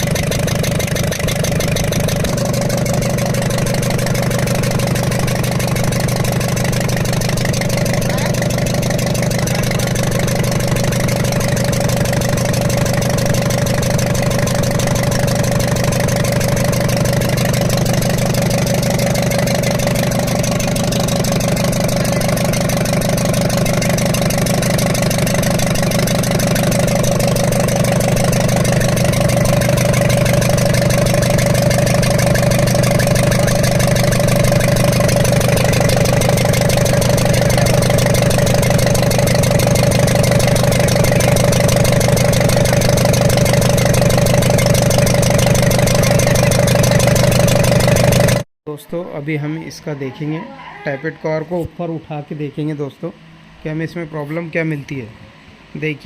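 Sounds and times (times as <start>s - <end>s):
diesel truck engine idling: 0.0s - 48.5s.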